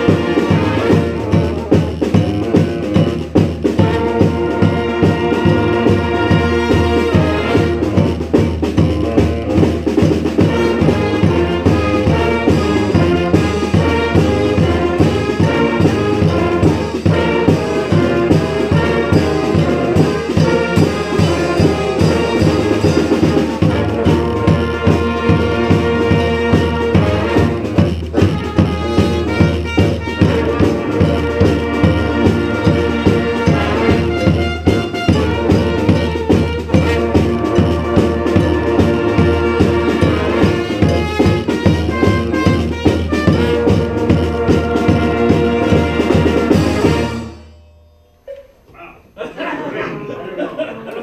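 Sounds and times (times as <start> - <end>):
bass drum beat: 0.0 - 47.2
brass band playing: 0.0 - 47.6.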